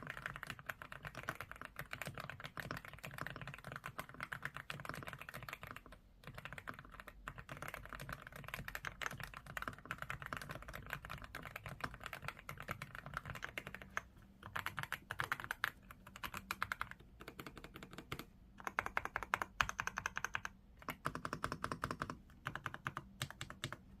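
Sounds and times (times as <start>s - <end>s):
fast mechanical keyboard typing: 0.0s - 24.0s.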